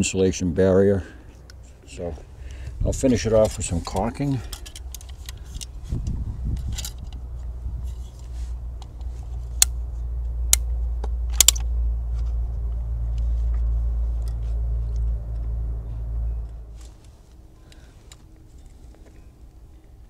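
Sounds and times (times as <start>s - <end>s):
steady low rumble: 1.0s - 20.0s.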